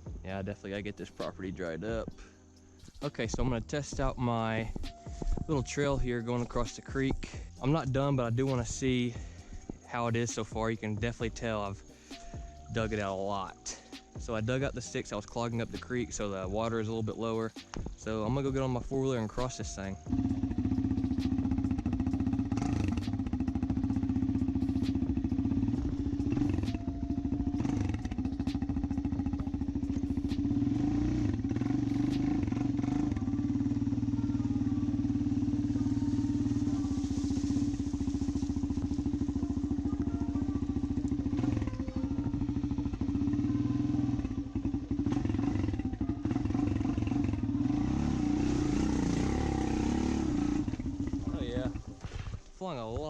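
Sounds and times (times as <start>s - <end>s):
atv engine running: 0.0s - 52.6s.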